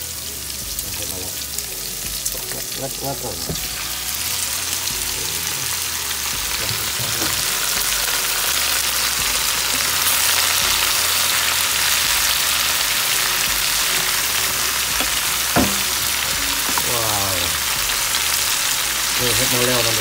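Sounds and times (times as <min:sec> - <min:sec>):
mushrooms sizzling in hot fat: 0:00.0 - 0:20.0.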